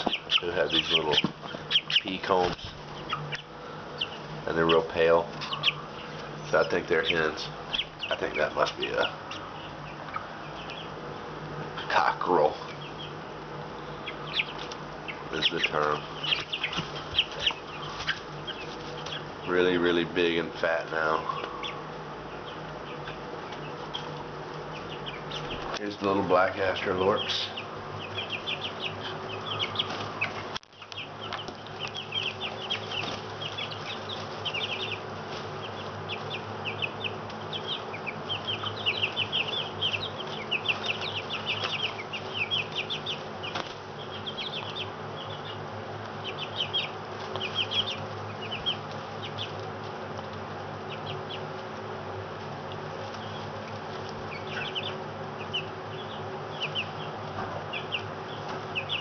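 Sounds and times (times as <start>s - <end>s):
chicks peeping: 0.0s - 59.0s
steady low hum: 0.0s - 59.0s.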